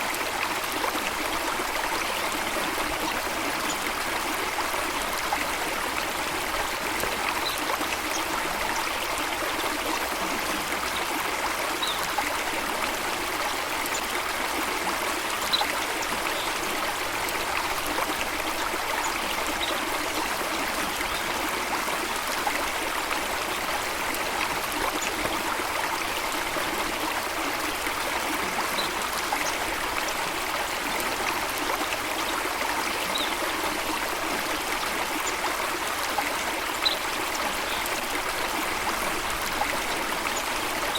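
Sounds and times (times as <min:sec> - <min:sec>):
stream rushing and trickling: 0:00.0 - 0:40.9.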